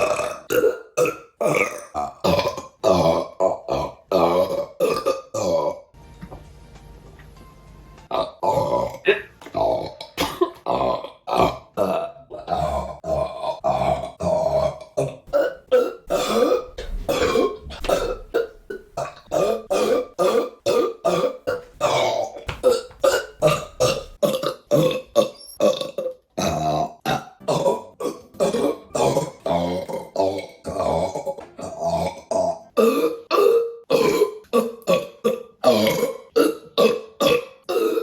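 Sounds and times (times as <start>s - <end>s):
woman burping: 0.0s - 5.9s, 8.1s - 38.0s.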